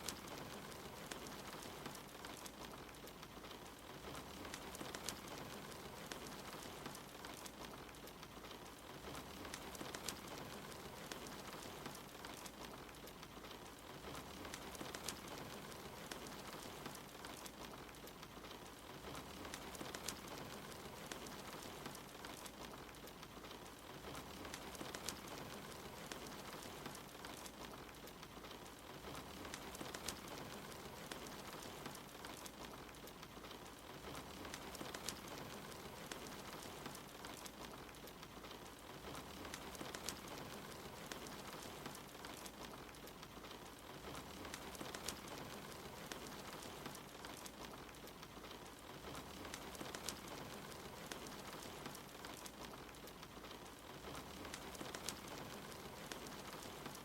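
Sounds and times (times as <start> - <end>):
soft rain: 0.0 - 57.0
wood fire crackling: 0.0 - 57.0.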